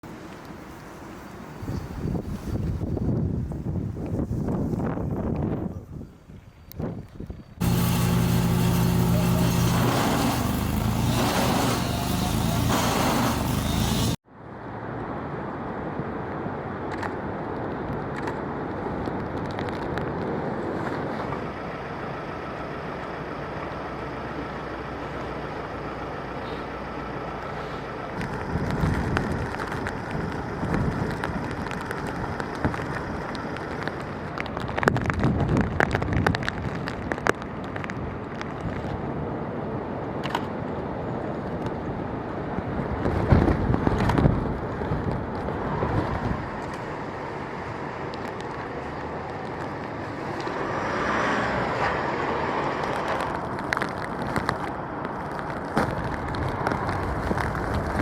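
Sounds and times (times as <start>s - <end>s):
wind: 0.0s - 58.0s
rush of passing vehicles: 7.6s - 58.0s.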